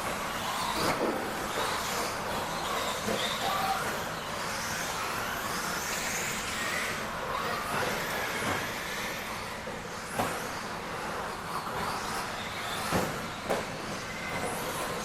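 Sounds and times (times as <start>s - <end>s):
electric rc trucks whining: 0.0s - 15.0s.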